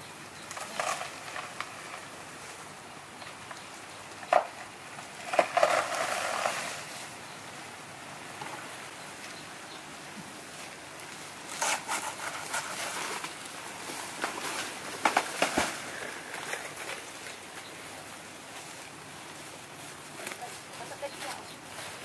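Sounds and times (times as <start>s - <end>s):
leaves rustling and crackling: 0.0s - 22.0s.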